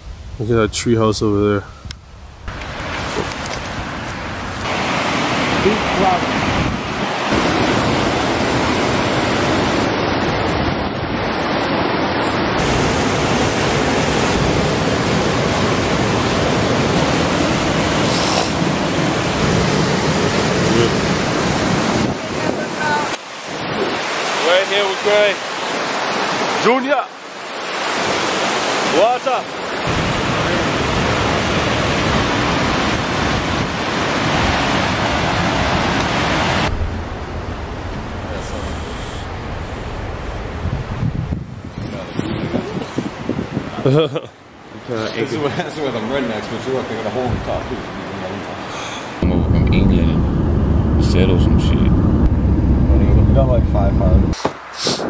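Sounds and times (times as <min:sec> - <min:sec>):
water rushing over rocks: 0:02.5 - 0:41.0, 0:41.6 - 0:50.2.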